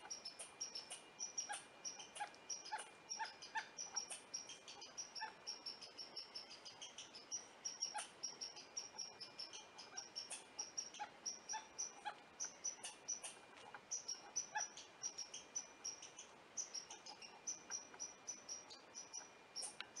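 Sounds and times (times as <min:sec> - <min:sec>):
squirrel chirping: 0:00.0 - 0:20.0.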